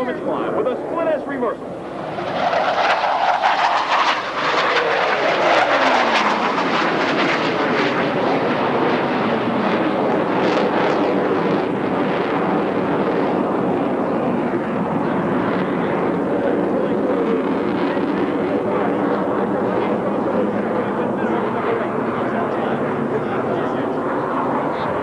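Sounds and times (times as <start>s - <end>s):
jets passing low: 0.0s - 25.0s.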